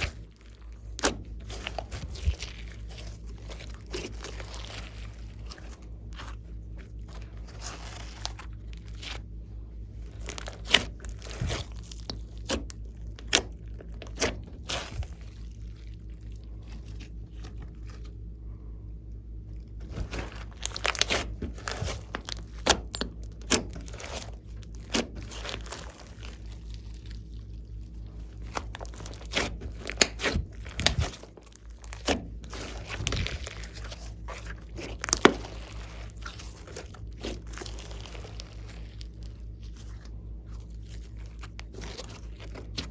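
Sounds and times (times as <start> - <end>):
slime squished by hand: 0.0 - 18.3, 19.6 - 42.9.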